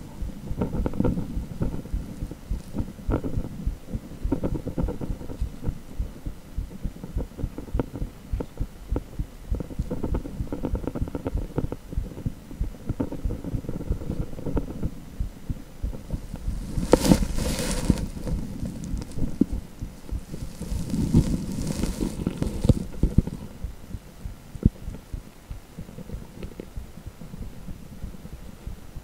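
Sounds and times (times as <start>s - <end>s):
doppler heartbeat pulses: 0.0s - 29.0s.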